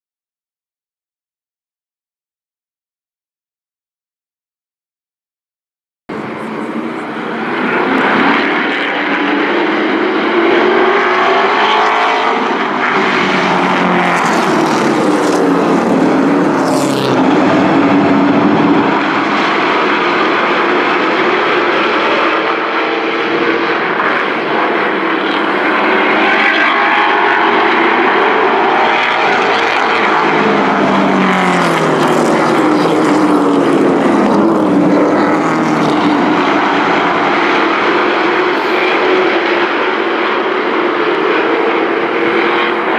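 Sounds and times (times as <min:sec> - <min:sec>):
race truck engines passing: 0:06.1 - 0:42.9.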